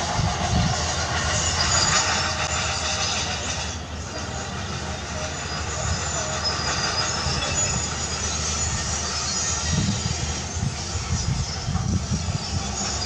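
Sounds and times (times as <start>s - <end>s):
diesel engine rumble: 0.0s - 13.0s
machinery hiss: 0.0s - 13.0s.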